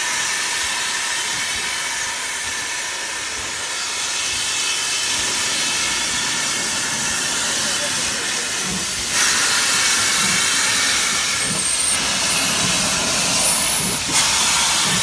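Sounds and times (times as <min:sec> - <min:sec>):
steam hissing loudly: 0:00.0 - 0:15.0.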